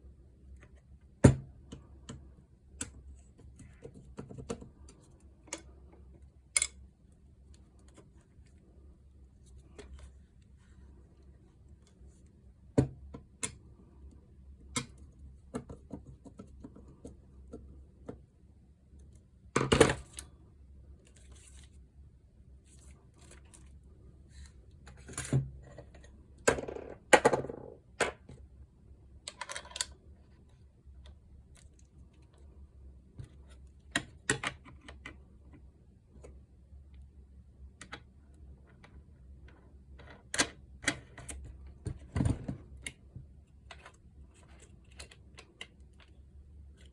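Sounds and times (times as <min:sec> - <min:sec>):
faint low hum: 0:00.0 - 0:46.9.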